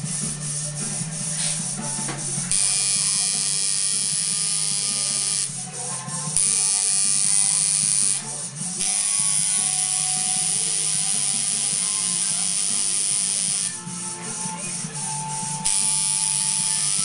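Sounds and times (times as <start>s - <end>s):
tattoo machine buzzing: 2.5s - 17.0s.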